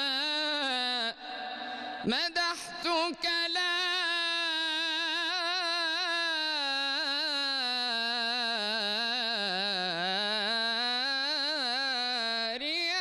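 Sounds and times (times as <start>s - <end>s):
man singing melismatic praise: 0.0s - 13.0s.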